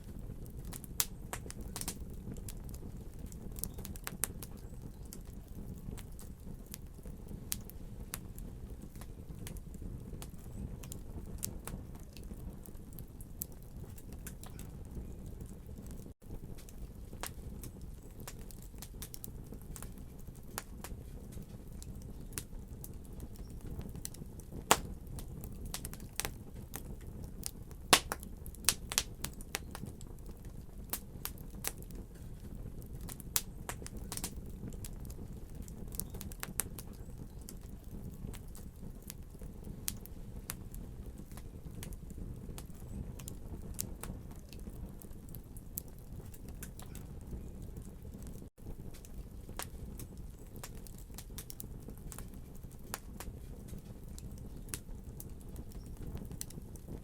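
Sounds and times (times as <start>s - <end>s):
fire crackling and popping: 0.0s - 57.0s
wood fire rumbling: 0.0s - 57.0s.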